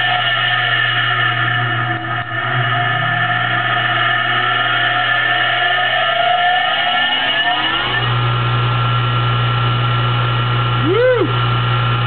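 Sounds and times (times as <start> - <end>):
electric motor whine: 0.0 - 12.0
loud electrical hum: 0.0 - 12.0.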